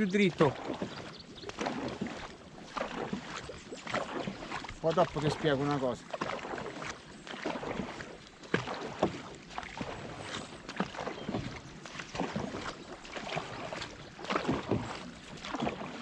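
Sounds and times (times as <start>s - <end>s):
paddles splashing in water: 0.0s - 16.0s
water washing along boat: 0.0s - 16.0s.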